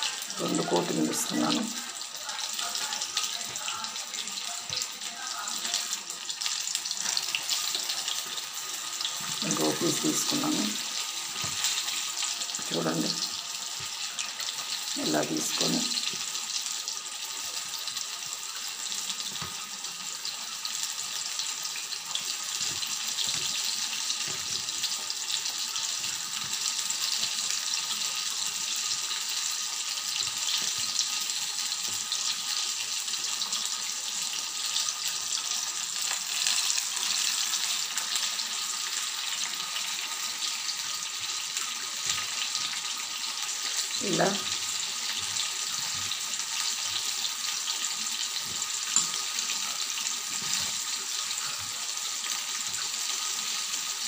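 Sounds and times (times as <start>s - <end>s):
chicken sizzling in hot oil: 0.0s - 54.0s.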